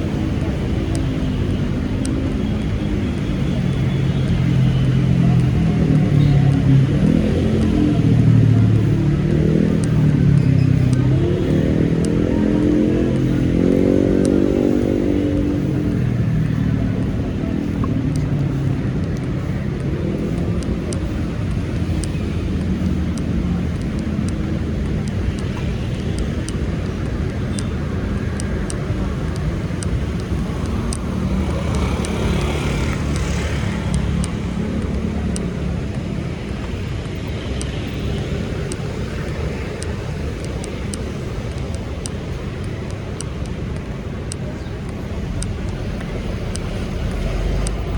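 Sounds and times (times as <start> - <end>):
light ticks: 0.0 - 47.9
vehicles passing: 0.0 - 47.9
steady low rumble: 4.7 - 47.9.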